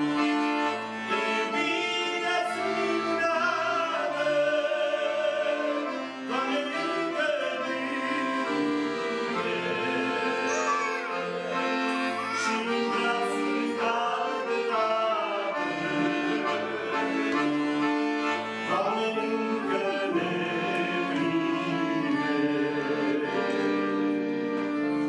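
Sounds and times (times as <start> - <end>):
piano accordion playing: 0.0 - 25.0.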